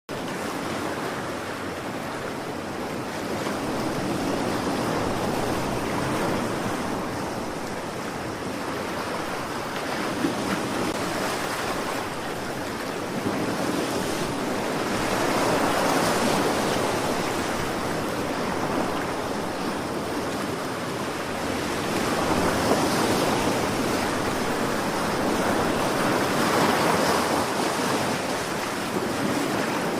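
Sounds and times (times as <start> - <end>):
sea waves washing on shore: 0.1 - 29.9
wind on microphone: 0.1 - 29.9.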